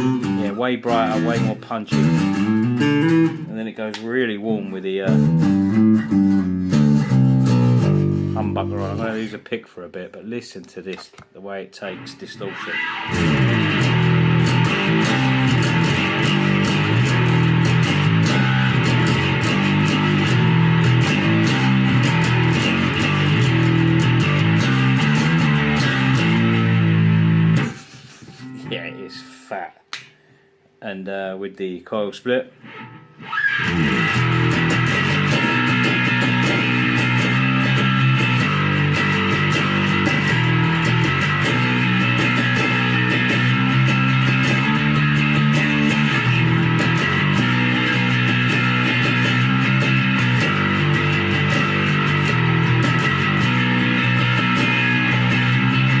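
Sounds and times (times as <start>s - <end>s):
distorted electric bass picked: 0.0s - 3.5s, 4.5s - 9.4s, 11.9s - 29.3s, 33.6s - 56.0s.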